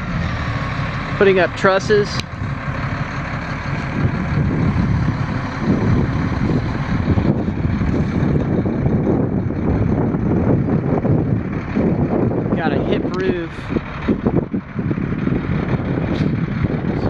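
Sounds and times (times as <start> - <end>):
crane engine running: 0.0 - 17.0
wind buffeting microphone: 0.0 - 17.0.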